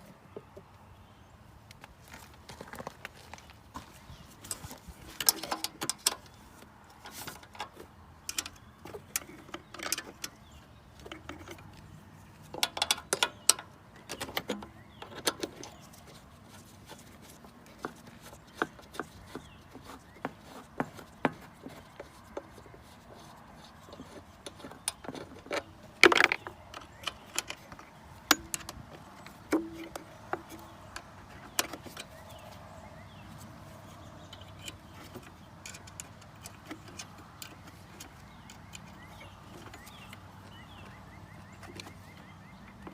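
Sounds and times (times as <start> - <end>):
hand tools and metal parts clinking: 2.1 - 42.9.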